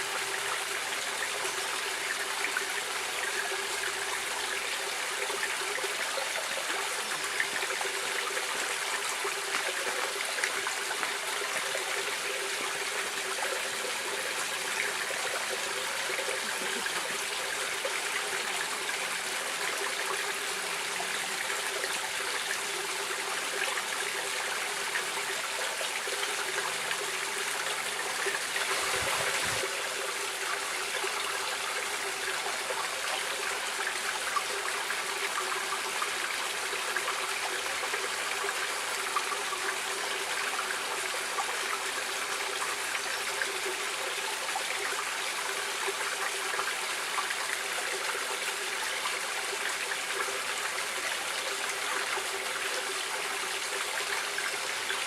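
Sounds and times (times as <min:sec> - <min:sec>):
stream water flowing and splashing: 0:00.0 - 0:55.0.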